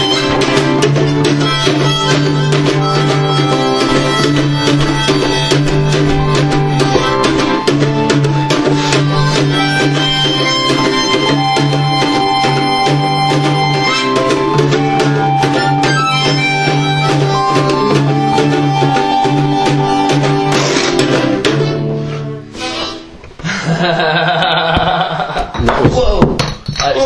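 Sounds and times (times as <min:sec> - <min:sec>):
instrumental music with steady beat: 0:00.0 - 0:23.4.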